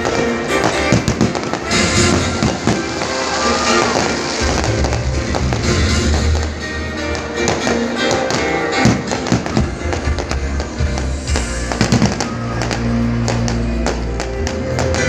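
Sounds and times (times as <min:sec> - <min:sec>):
fireworks bangs: 0:00.0 - 0:15.0
loud music: 0:00.0 - 0:15.0.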